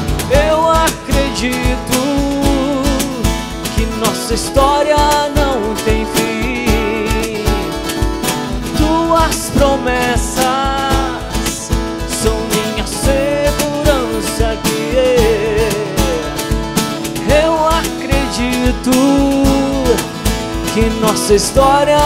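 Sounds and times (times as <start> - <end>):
acoustic guitar strumming: 0.0 - 22.0
cajon beat: 0.0 - 22.0
person singing: 0.2 - 22.0.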